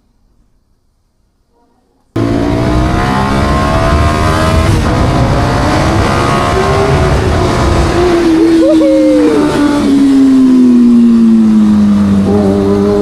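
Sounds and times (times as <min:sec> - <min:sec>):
motorcycle engine accelerating: 0:02.2 - 0:13.0.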